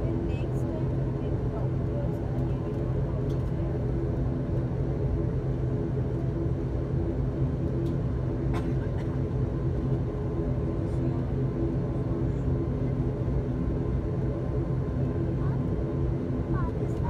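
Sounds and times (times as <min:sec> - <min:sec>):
turboprop engine droning: 0:00.0 - 0:17.0.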